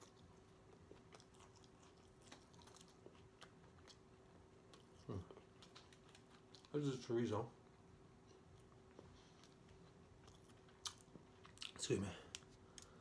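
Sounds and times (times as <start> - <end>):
quiet chewing: 0.0 - 7.0, 7.6 - 13.0.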